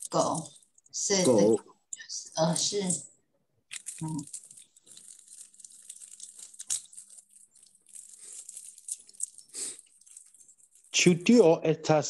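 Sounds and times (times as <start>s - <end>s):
faint crackling and rustling: 0.0s - 11.4s.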